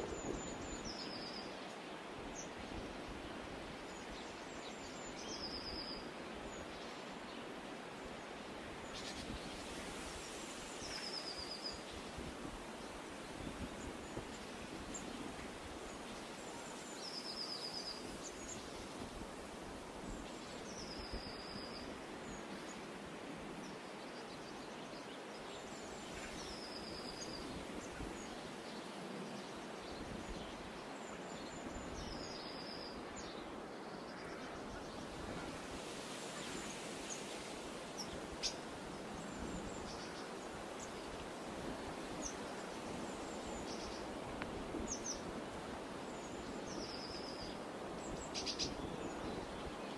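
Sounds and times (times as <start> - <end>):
open-air hiss: 0.0 - 49.9.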